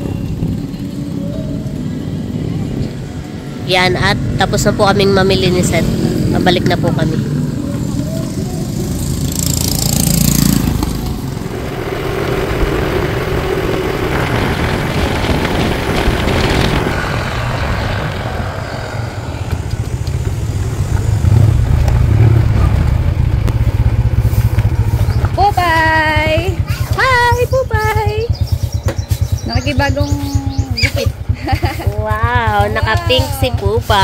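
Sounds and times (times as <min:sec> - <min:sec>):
motorcycle engine rumble: 0:00.0 - 0:34.0
wind on microphone: 0:00.0 - 0:34.0.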